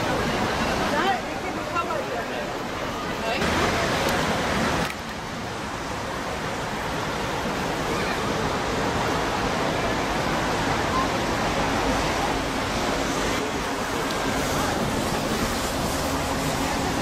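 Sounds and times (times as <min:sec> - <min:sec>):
faint crowd voices: 0:00.0 - 0:05.0, 0:06.0 - 0:17.0
steady rushing outdoor noise: 0:00.0 - 0:17.0.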